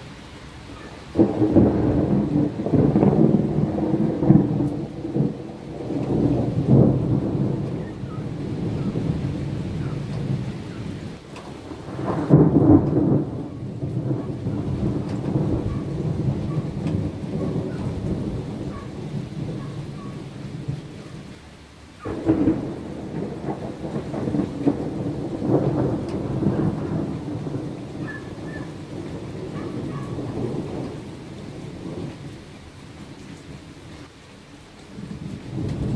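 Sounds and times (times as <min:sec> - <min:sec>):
steady rain: 0:00.0 - 0:35.9
thunder rumbling: 0:01.1 - 0:21.4, 0:22.0 - 0:34.0, 0:34.9 - 0:35.9.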